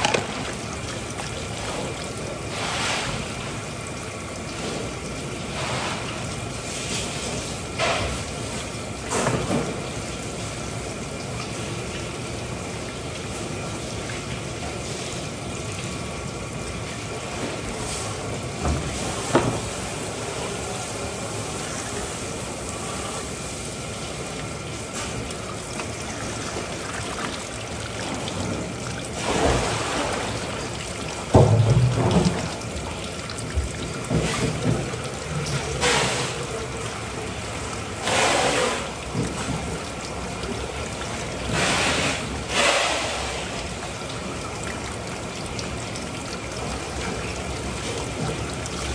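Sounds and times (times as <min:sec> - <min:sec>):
water trickling: 0:00.0 - 0:48.9.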